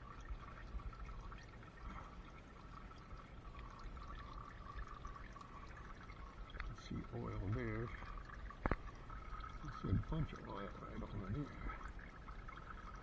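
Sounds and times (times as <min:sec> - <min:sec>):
oil pouring in a thin stream: 0:00.0 - 0:13.0.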